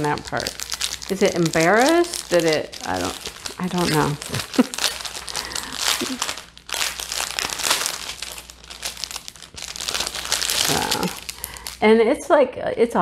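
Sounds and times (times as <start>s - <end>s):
plastic packets crinkling: 0.0s - 11.8s.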